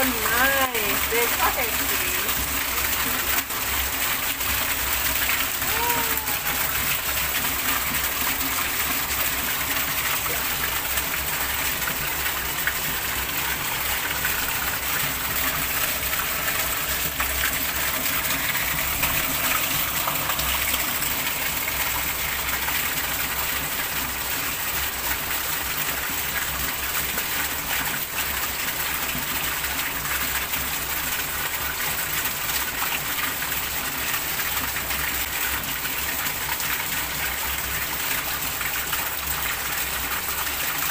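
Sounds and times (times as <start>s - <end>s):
heavy rain on water and tiles: 0.0s - 40.9s.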